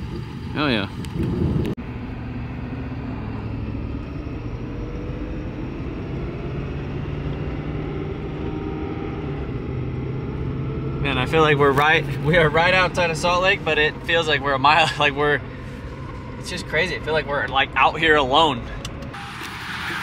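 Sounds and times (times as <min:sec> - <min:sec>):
engine and road noise drone: 0:00.0 - 0:20.0.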